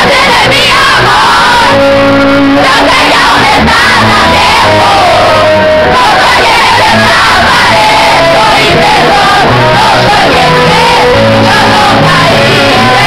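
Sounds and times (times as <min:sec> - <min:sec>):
crowd singing and shouting: 0:00.0 - 0:13.0
man singing lead vocal: 0:00.0 - 0:13.0.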